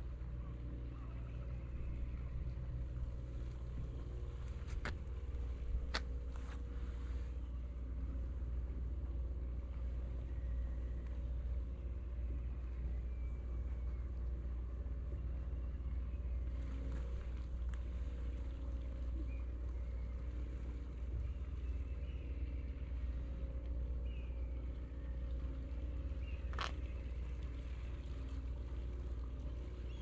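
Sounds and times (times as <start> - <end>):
boat engine rumbling: 0.0 - 30.0
faint hum: 0.0 - 30.0.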